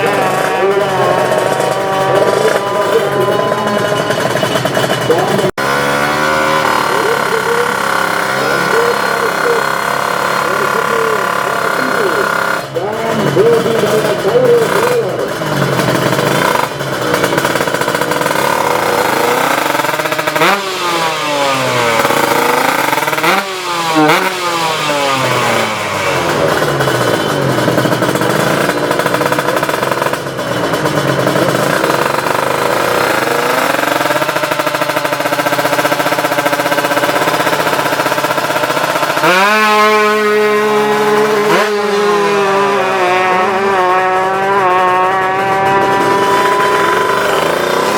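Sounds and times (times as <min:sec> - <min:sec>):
two-stroke engines revving: 0:00.0 - 0:47.9.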